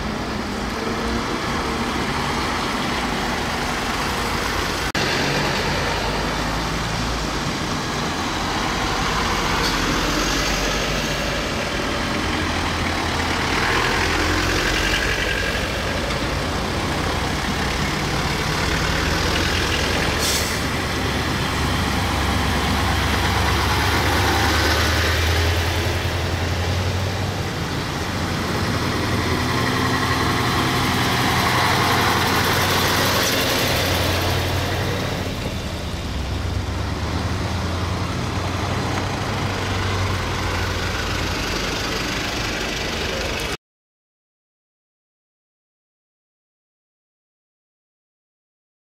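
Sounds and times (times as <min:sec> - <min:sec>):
trucks driving past: 0:00.0 - 0:43.6
tyres on wet pavement: 0:00.0 - 0:43.6.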